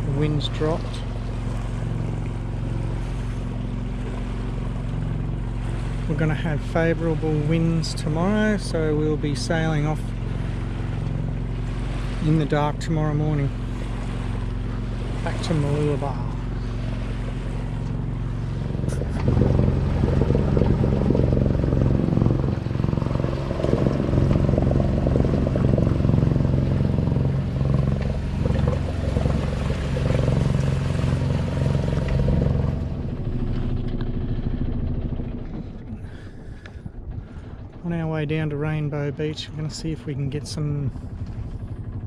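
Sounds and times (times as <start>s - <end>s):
boat engine droning: 0.0s - 42.0s.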